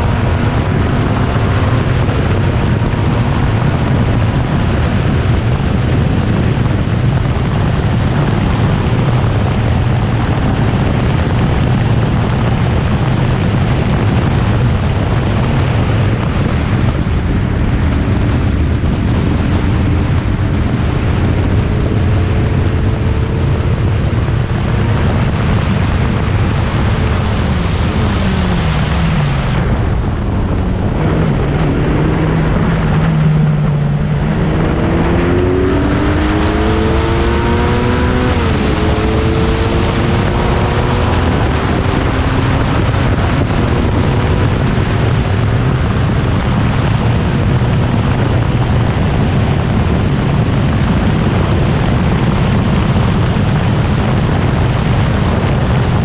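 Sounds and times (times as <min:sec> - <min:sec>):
racing car engine at speed: 0:00.0 - 0:56.0.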